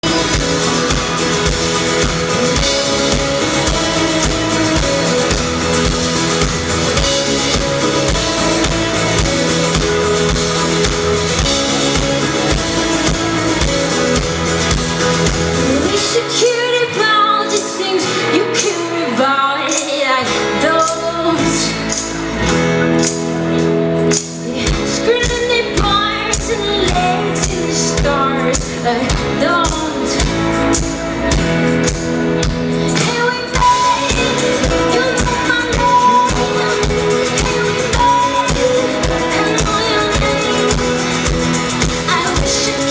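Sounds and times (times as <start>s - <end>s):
woman singing: 0.0s - 22.1s, 24.3s - 31.0s, 32.4s - 42.9s
live pop-rock band: 0.0s - 42.9s.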